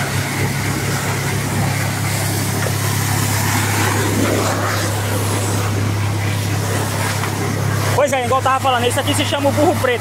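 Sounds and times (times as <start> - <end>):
motor pump droning: 0.0 - 10.0
water jet spraying soil: 0.0 - 10.0.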